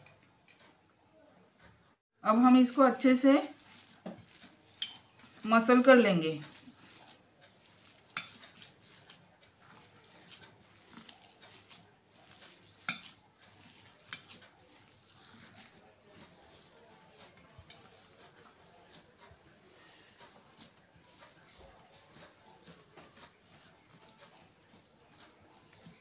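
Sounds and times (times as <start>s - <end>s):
hands squishing potato: 2.3s - 26.0s.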